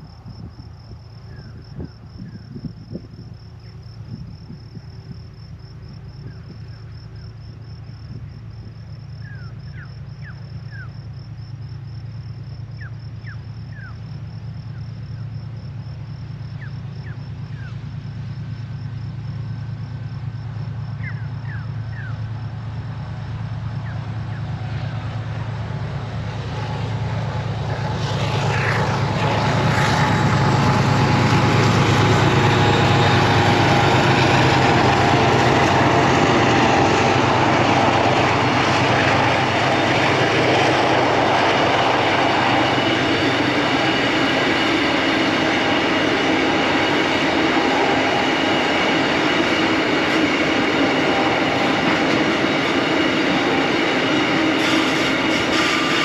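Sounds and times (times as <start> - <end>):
diesel locomotive engines humming: 0.0 - 56.0.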